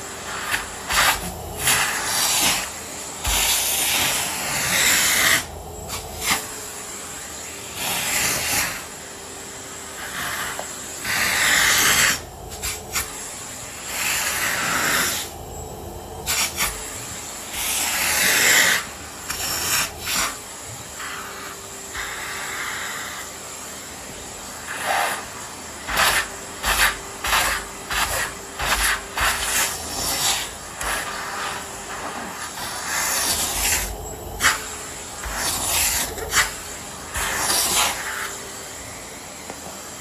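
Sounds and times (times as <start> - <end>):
vacuum nozzle swishing on floor: 0.0 - 15.4, 16.0 - 40.0
vacuum cleaner running: 0.0 - 40.0.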